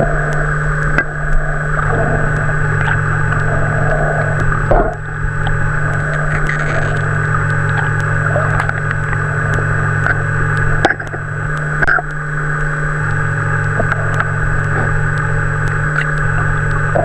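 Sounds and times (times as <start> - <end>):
underwater mechanical hum: 0.0 - 17.0.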